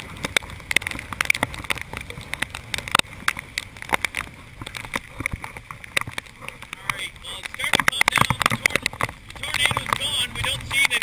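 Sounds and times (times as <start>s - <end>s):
raindrops tapping on camera: 0.0s - 11.0s.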